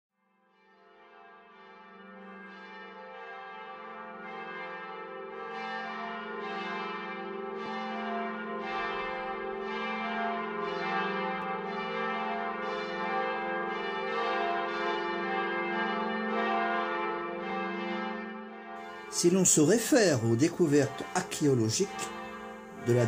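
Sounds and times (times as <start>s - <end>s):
bells ringing in a peal: 0.6s - 23.0s.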